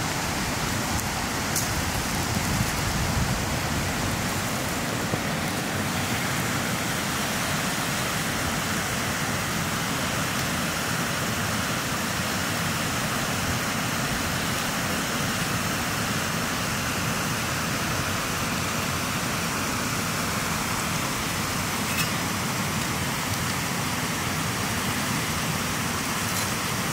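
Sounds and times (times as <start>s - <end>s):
creek water flowing: 0.0s - 26.9s.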